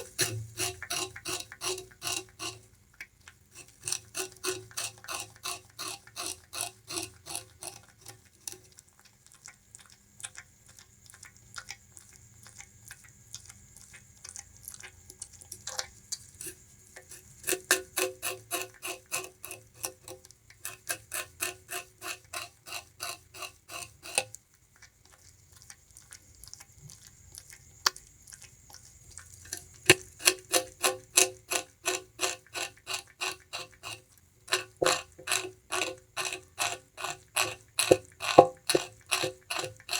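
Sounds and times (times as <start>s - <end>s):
rat gnawing sugarcane: 0.0s - 39.9s.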